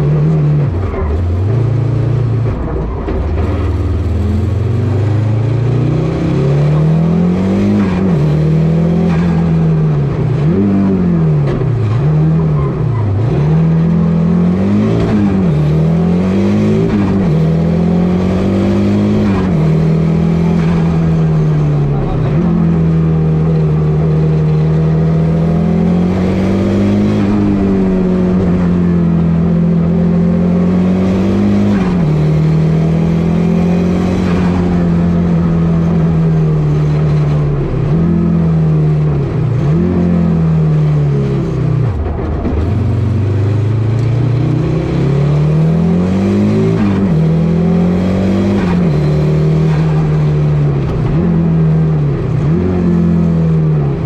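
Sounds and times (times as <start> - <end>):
rally car engine accelerating: 0.0 - 54.0.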